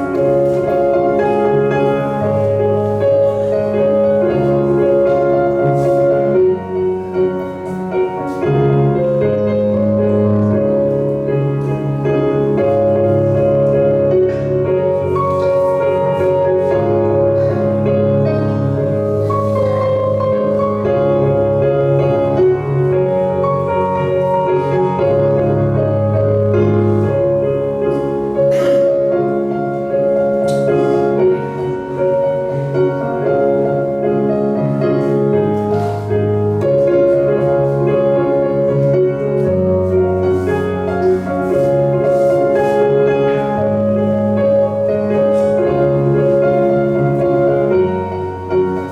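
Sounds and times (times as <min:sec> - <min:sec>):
slow piano music: 0:00.0 - 0:48.9.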